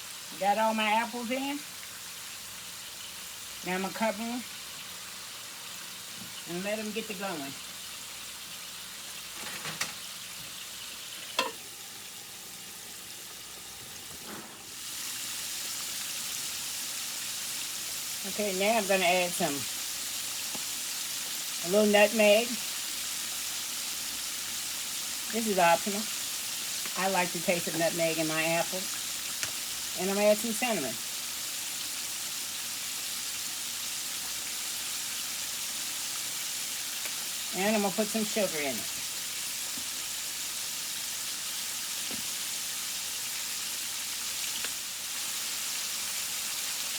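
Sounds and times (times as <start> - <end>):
apples sizzling in a skillet: 0.0 - 46.9.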